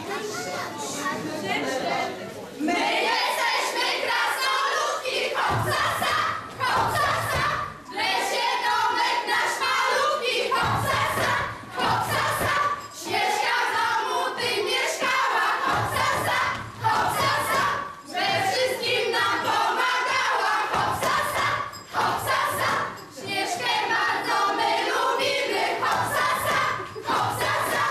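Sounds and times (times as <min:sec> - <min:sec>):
children and adults singing: 0:02.6 - 0:27.9.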